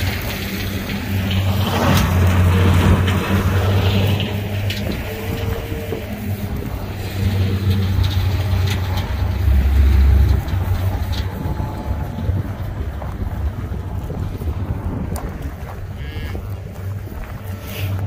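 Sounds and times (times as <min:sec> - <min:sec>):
high whine: 0:00.0 - 0:18.0
tractor engine drone: 0:00.0 - 0:18.0.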